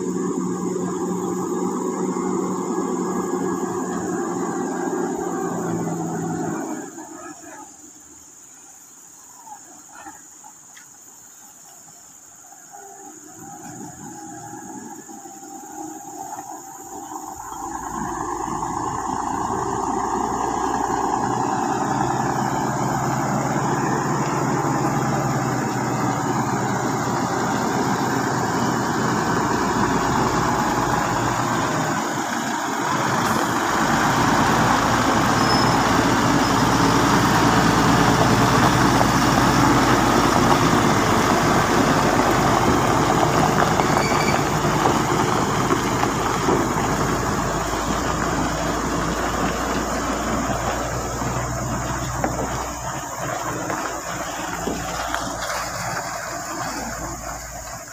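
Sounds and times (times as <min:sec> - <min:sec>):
truck diesel engine passing: 0:00.0 - 0:11.5, 0:12.2 - 0:57.9.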